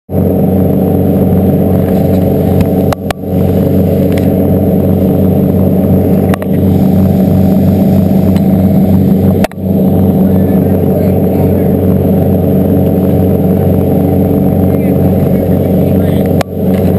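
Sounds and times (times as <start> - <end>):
boat engines humming: 0.1 - 16.9.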